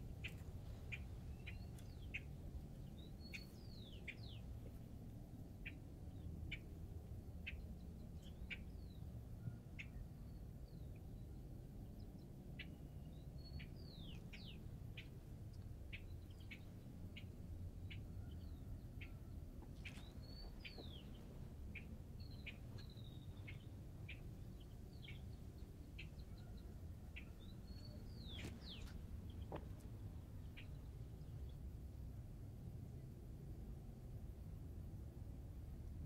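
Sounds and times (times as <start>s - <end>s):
small birds chirping: 0.0s - 31.6s
steady low background noise: 0.0s - 36.0s.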